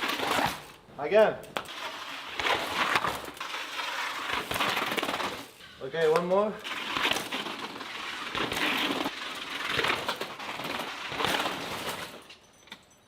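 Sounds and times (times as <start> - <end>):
bike rattling: 0.0 - 0.8, 1.5 - 13.0
bike tyre noise: 0.0 - 12.4.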